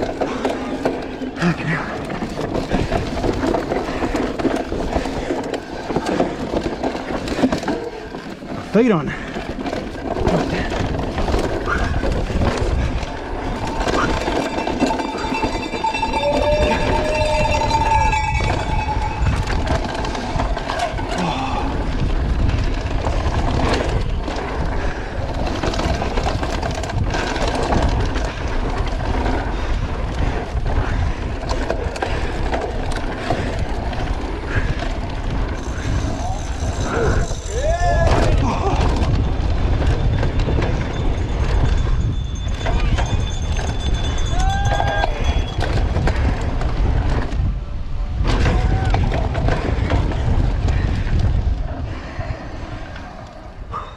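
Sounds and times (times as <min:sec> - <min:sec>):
bike knocks and rattles: 0:00.0 - 0:52.8
tyres rumbling on dirt trail: 0:00.0 - 0:53.9
wind buffeting microphone: 0:00.0 - 0:53.9.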